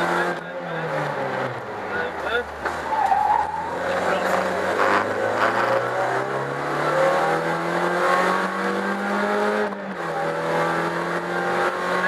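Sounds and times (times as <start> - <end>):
car engine accelerating hard: 0.0 - 2.8, 3.4 - 12.0.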